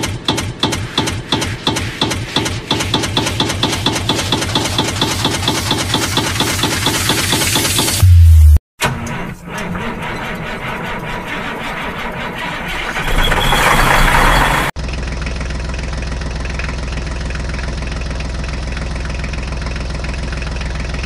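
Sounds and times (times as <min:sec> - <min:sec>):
engine idling with fast throb: 0:00.1 - 0:08.1, 0:09.7 - 0:21.0
rough engine sound: 0:01.5 - 0:21.0.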